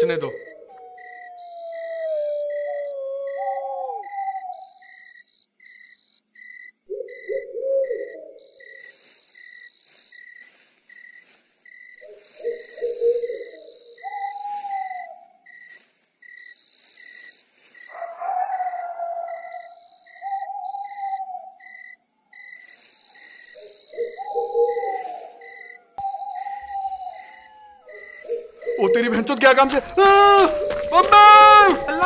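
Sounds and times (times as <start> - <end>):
high insect trilling: 0.0 - 3.0, 4.0 - 7.3, 8.0 - 32.0
crickets chirping: 0.0 - 32.0
owl hooting: 0.0 - 32.0.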